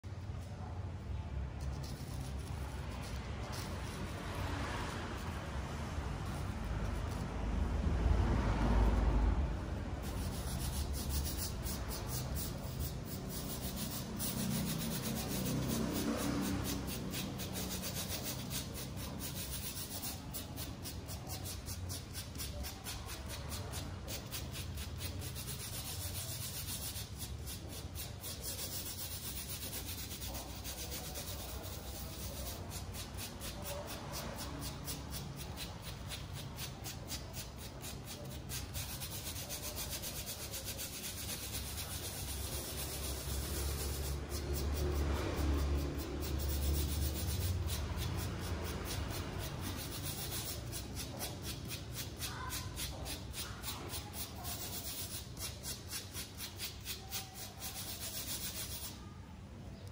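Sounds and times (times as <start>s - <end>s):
hand rubbing sand on card: 1.6s - 5.3s, 10.0s - 59.0s.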